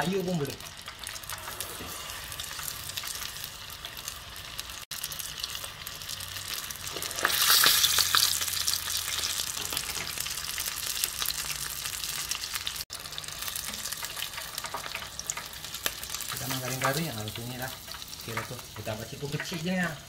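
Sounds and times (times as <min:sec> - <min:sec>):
prawns deep-frying in oil: 0:00.0 - 0:20.0.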